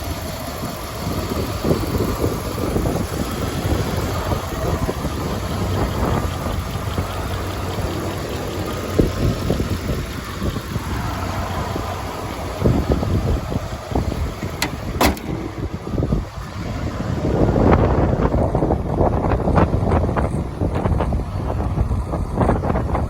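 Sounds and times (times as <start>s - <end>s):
truck engine idling: 0.0s - 23.0s
low buffeting: 0.2s - 23.0s.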